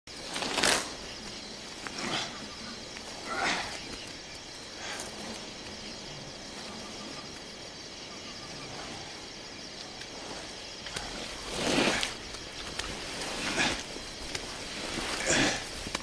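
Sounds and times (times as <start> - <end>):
rustling: 0.1 - 7.5, 8.6 - 16.0
insects chirring: 0.1 - 16.0.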